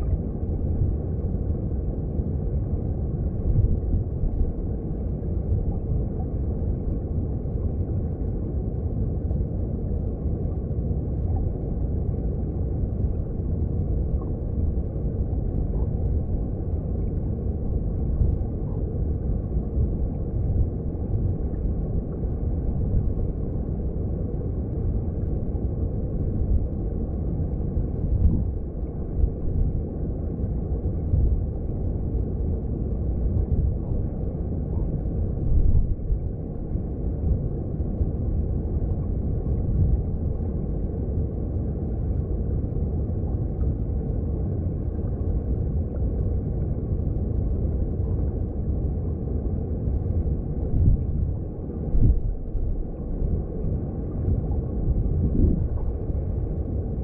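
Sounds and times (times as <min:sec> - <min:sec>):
underwater rumble of flowing water: 0:00.0 - 0:57.0.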